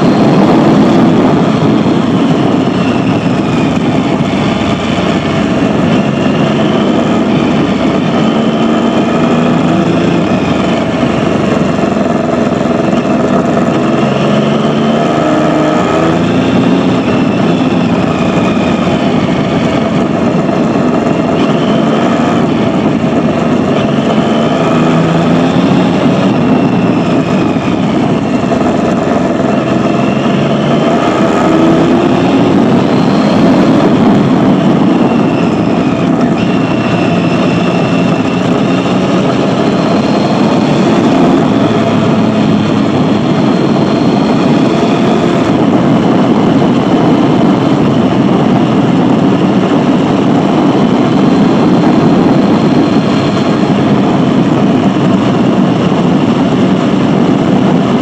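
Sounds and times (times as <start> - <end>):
motorcycle engine revving: 0.0 - 58.0
road and wind noise: 0.0 - 58.0.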